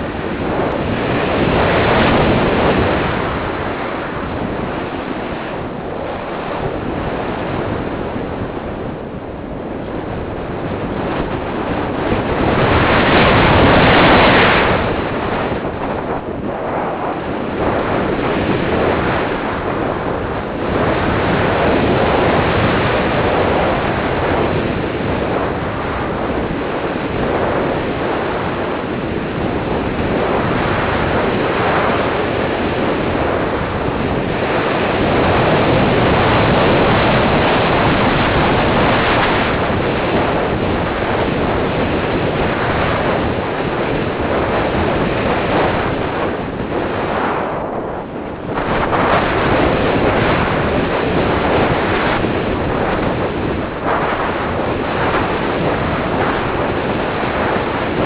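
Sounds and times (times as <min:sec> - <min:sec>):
airflow rushing over microphone: 0:00.0 - 0:58.0.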